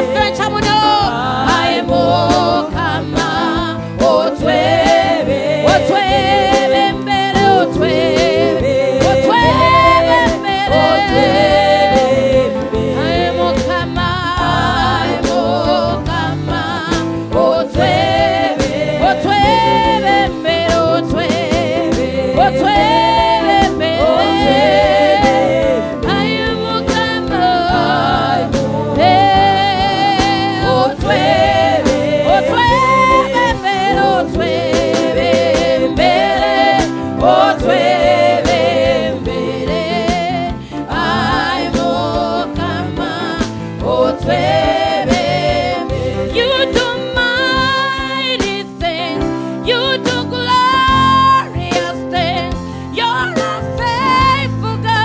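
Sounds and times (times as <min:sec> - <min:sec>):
band with bass and drums: 0:00.0 - 0:55.0
voices singing with vibrato: 0:00.0 - 0:55.0.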